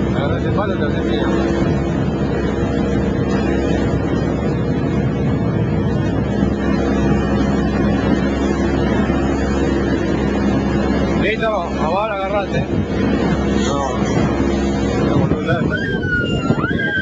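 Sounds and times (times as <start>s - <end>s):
motorboat engine humming: 0.0s - 17.0s
water noise: 0.0s - 17.0s
wind: 0.0s - 17.0s.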